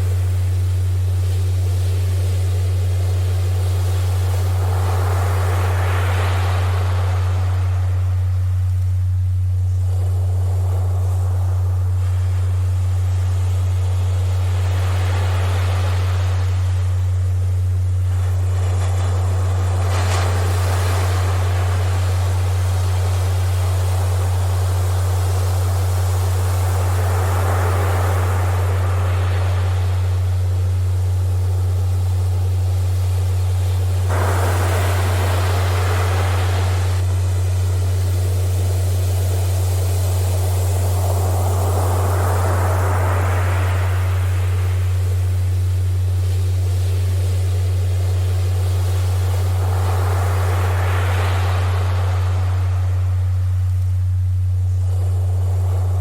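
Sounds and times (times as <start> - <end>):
low hum tone: 0.0 - 56.0
ocean surf waves: 0.0 - 56.0.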